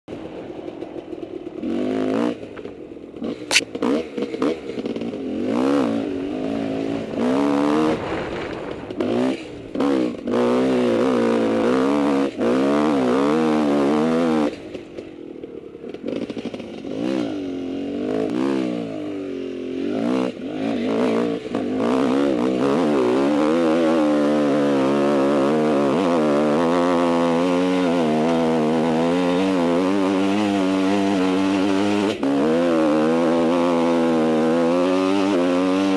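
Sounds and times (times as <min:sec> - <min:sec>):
dirt bike engine revving: 0:00.1 - 0:35.9.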